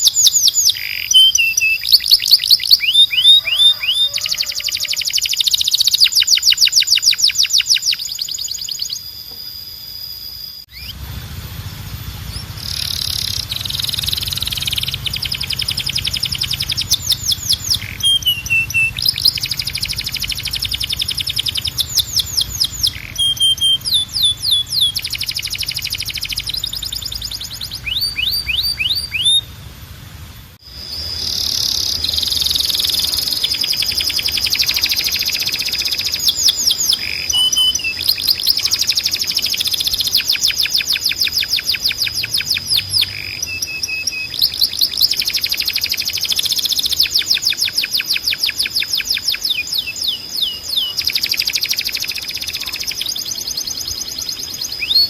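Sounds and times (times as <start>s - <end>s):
canary singing: 0.0s - 29.7s, 30.6s - 55.0s
faint steady hum: 0.0s - 55.0s.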